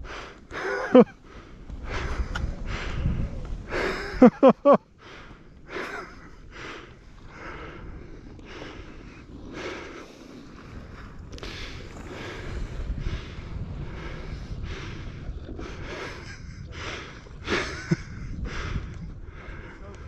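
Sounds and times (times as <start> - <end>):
heavy breathing: 0.0 - 4.3, 5.0 - 20.0
wind rumble on microphone: 0.0 - 20.0.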